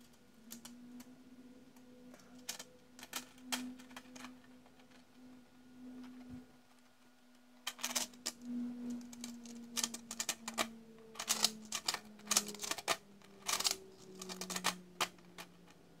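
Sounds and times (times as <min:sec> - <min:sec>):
plastic fan blades clicking: 0:00.0 - 0:01.2, 0:01.8 - 0:05.4, 0:06.0 - 0:16.0
faint steady hum: 0:00.0 - 0:16.0.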